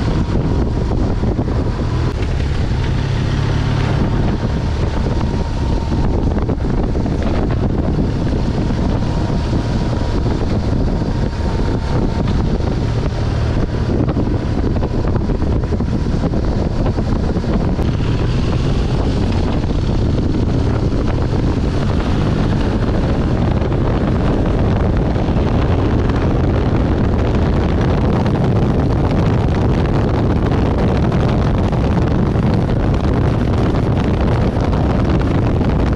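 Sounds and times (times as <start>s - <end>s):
motorcycle engine running: 0.0s - 35.9s
wind rumble on microphone: 0.0s - 35.9s.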